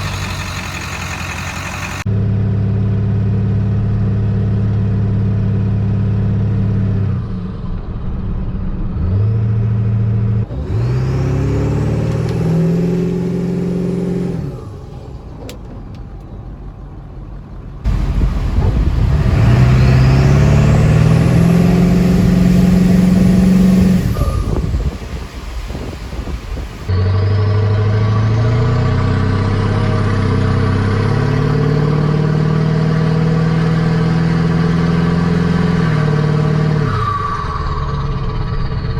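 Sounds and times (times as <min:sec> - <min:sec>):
diesel engine accelerating: 0:00.0 - 0:38.9.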